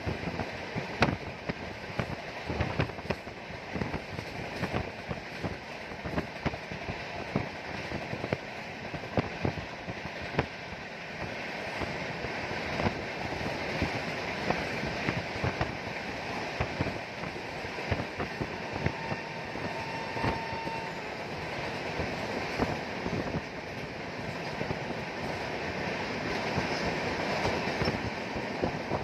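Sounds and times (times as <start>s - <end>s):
rail joint clicks: 0.0s - 29.0s
train wheels rumbling on rail: 0.0s - 29.0s.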